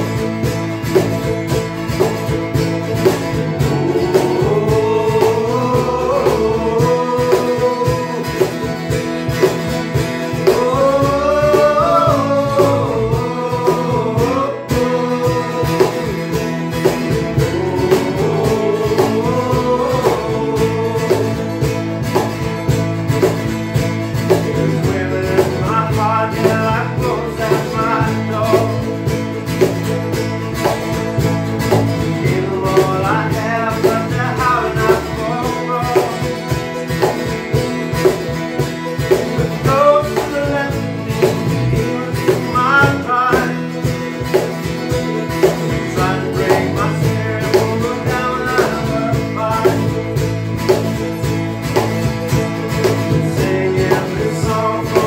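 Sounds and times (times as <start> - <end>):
acoustic folk band playing: 0.0 - 55.0
man singing lead: 3.1 - 22.8, 24.2 - 29.7, 31.2 - 37.4, 39.1 - 55.0.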